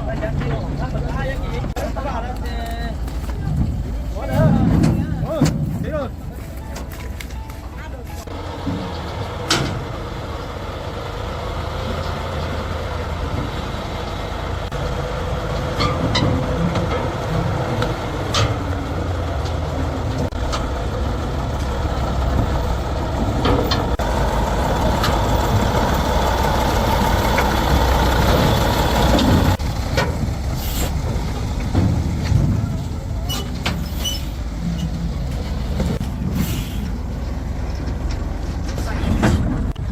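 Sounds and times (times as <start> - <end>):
truck diesel engine running: 6.1 - 39.9.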